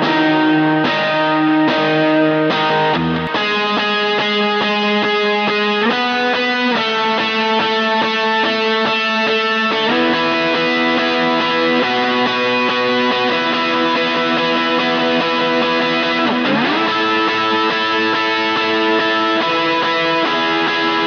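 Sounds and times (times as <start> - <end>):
electric guitar chords ringing: 0.0 - 21.0.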